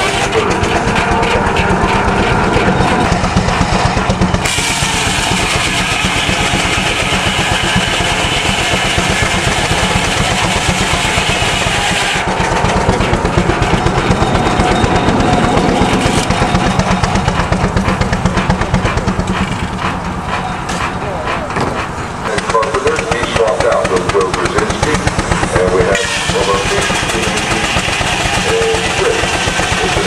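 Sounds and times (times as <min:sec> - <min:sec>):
circular saw cutting log: 0:00.0 - 0:30.0
mill machinery thumping: 0:00.0 - 0:30.0.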